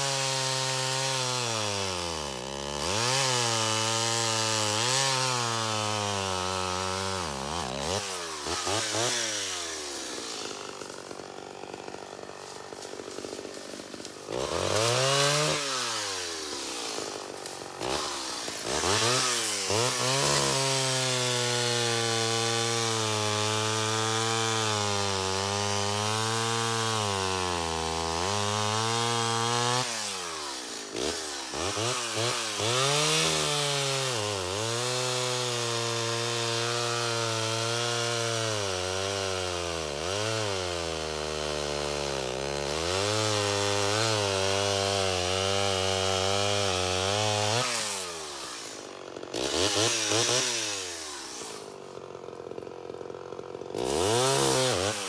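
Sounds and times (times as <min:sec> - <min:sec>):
chainsaw cutting logs: 0:00.0 - 0:55.0.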